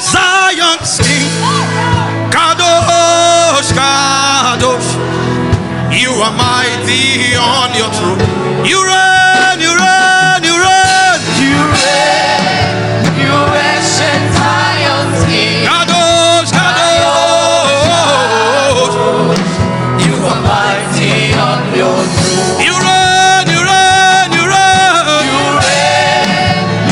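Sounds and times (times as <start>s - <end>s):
gospel worship singing: 0.0s - 26.9s
instrumental accompaniment: 0.0s - 26.9s.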